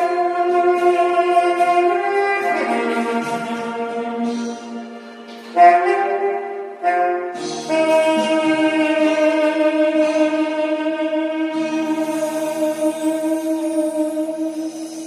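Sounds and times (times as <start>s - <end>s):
saxophone slow melody: 0.0s - 15.0s.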